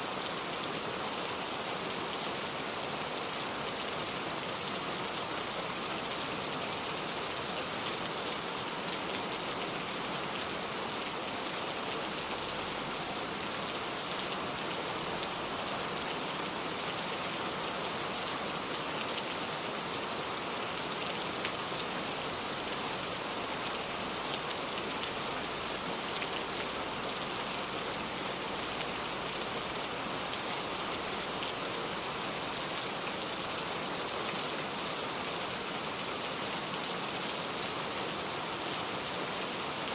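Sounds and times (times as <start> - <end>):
pouring rain hiss: 0.0 - 39.9.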